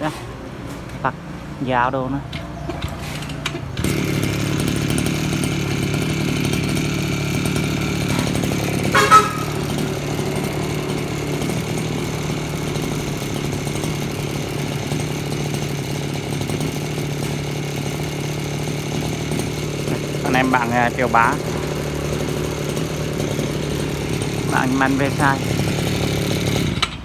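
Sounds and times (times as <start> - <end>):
brush cutter engine running: 0.0 - 27.0.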